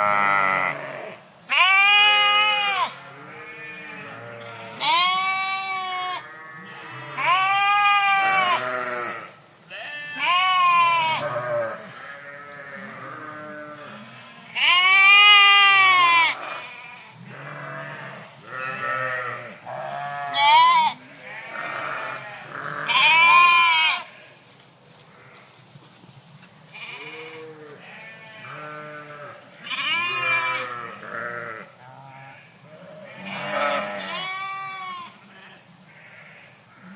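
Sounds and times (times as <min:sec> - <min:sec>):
sheep bleating: 0:00.0 - 0:24.3, 0:26.8 - 0:36.9.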